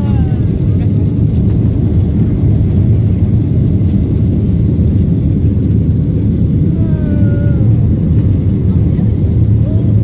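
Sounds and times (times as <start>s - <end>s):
jet engines rumbling in cabin: 0.0s - 10.0s
rushing airflow: 0.0s - 10.0s.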